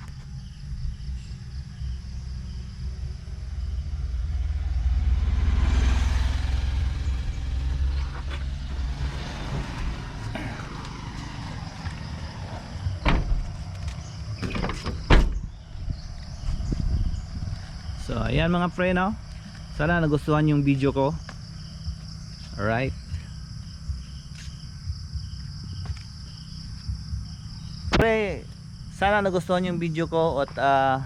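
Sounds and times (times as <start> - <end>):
low rumble: 0.0 - 29.3
motor vehicle passing: 0.4 - 29.0.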